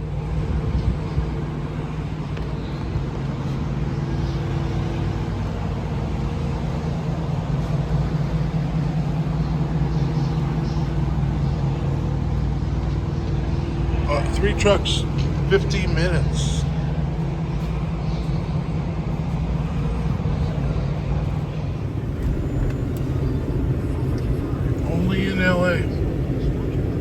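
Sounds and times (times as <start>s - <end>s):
faint steady tones: 0.0s - 27.0s
vehicle engine and road drone: 0.0s - 27.0s.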